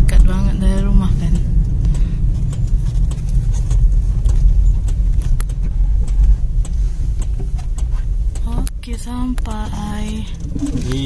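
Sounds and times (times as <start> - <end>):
engine and road noise rumble: 0.0 - 11.0
light clicks and taps: 1.3 - 11.0.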